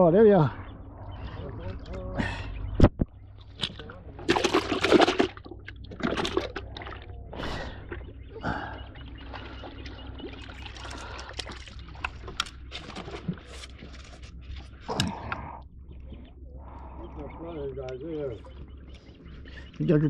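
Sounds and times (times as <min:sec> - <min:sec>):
steady low hum: 0:00.0 - 0:20.0
water sloshing and trickling: 0:00.3 - 0:20.0.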